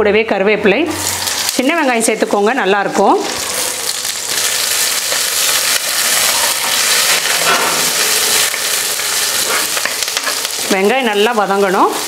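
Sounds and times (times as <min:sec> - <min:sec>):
food sizzling in hot oil: 0:00.8 - 0:12.0.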